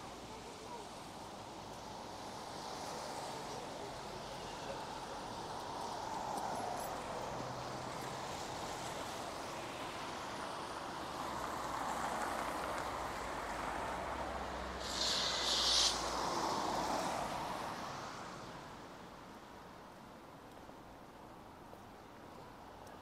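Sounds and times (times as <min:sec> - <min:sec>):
tyres hissing on wet road: 0:00.0 - 0:20.2.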